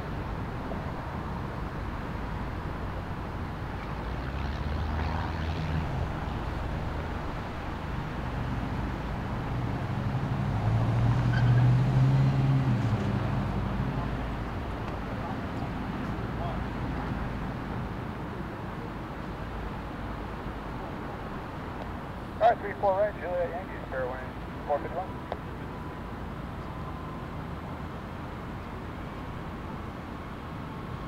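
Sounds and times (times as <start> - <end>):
passing vehicle engine rumble: 0.0 - 31.0.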